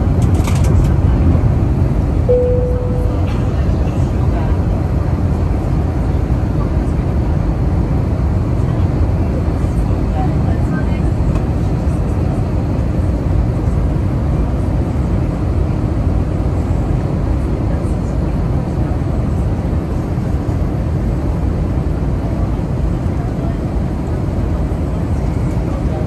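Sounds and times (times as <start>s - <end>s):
airplane engines rumbling: 0.0s - 26.0s.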